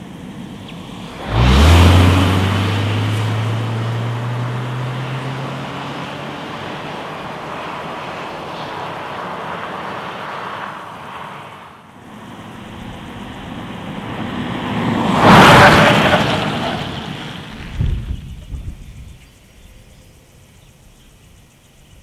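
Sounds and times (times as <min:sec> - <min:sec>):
car driving past: 0:00.6 - 0:18.3.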